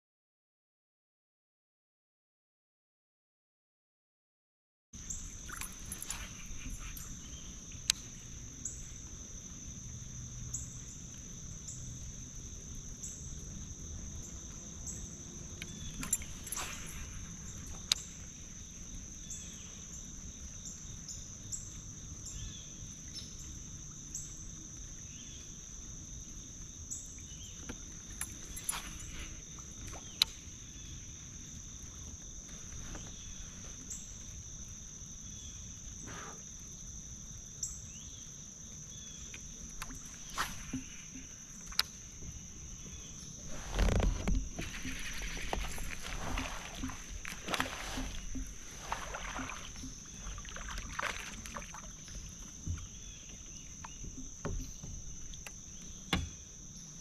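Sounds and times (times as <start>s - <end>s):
high-pitched insect chorus: 5.0s - 57.0s.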